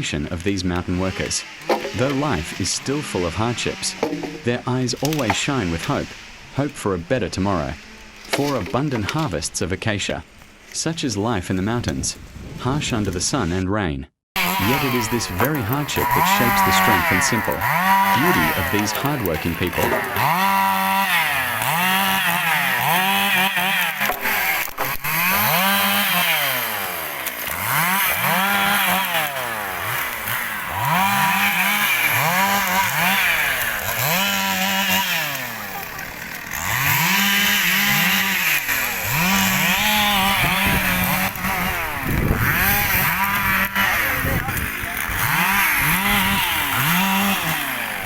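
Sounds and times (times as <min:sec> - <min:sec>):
chainsaw cutting timber: 0:00.0 - 0:09.7, 0:14.4 - 0:48.0.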